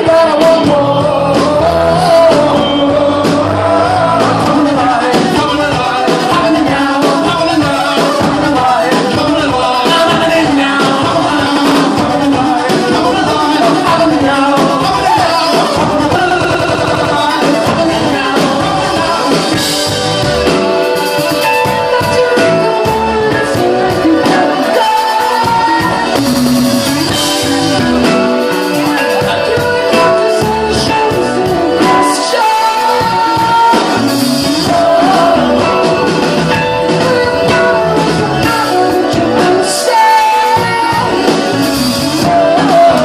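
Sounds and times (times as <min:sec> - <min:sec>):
live rock band playing: 0:00.0 - 0:43.0
person singing lead vocal: 0:00.0 - 0:43.0.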